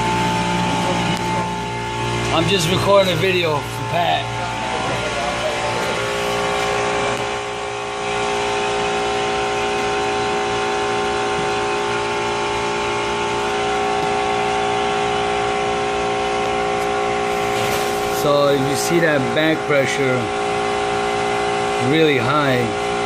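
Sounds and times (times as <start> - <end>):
compressor mechanical hum: 0.0 - 23.0.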